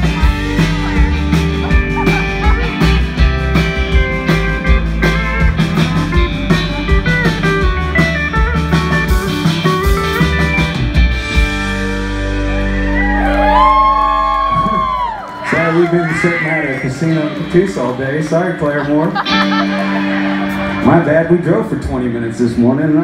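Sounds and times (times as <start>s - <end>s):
country band playing: 0.0s - 23.0s.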